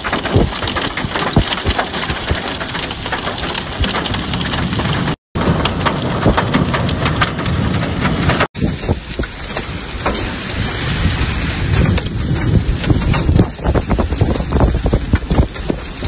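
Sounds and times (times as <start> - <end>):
hailstones striking: 0.0 - 16.0
heavy rain on wet road: 0.0 - 16.0.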